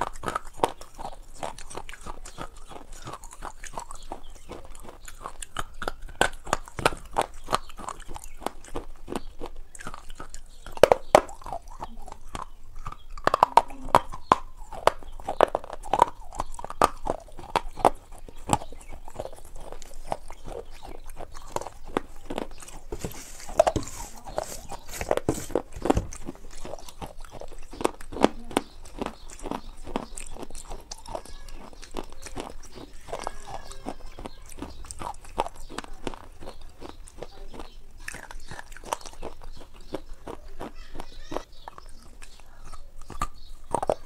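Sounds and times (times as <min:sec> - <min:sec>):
mouth clicks and smacks: 0:00.0 - 0:44.0
person chewing: 0:00.0 - 0:44.0.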